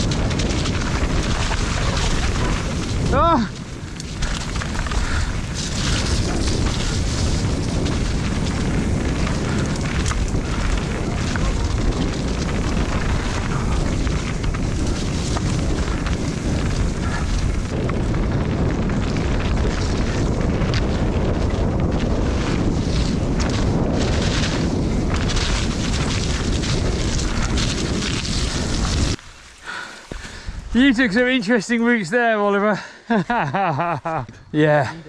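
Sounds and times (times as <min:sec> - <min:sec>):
bike tyres on muddy trail: 0:00.0 - 0:35.0
wind buffeting microphone: 0:00.0 - 0:35.0.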